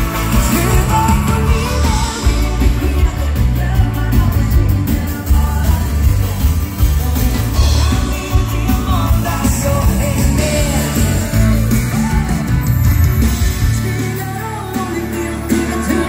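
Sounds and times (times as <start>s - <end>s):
live rock and roll band: 0.0s - 16.0s.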